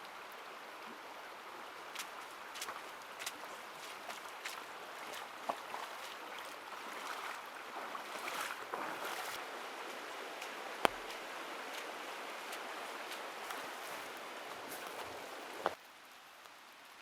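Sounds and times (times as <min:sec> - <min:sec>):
running water: 0:00.0 - 0:15.8
rain: 0:00.0 - 0:17.0.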